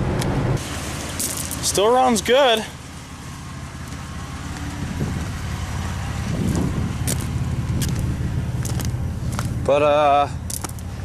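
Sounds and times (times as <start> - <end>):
truck engine driving: 0.0 - 11.0.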